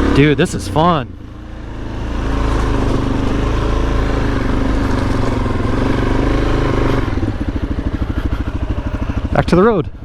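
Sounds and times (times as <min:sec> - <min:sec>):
motorcycle engine pulling: 0:01.6 - 0:09.8.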